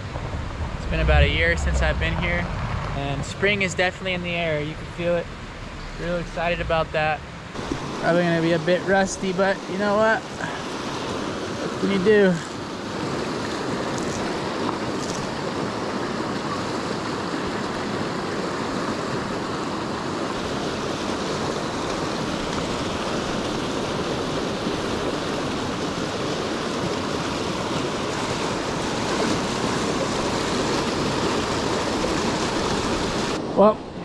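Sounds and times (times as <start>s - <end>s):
water rushing over rocks: 0.0s - 33.7s.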